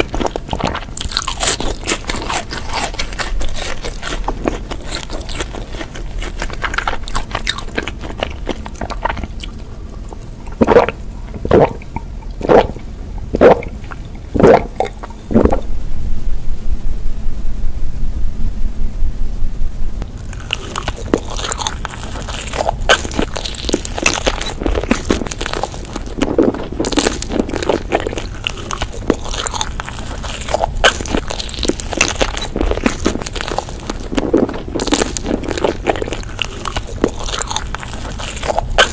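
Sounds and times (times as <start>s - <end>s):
mouth chewing and smacking: 0.0s - 15.7s, 20.1s - 38.9s.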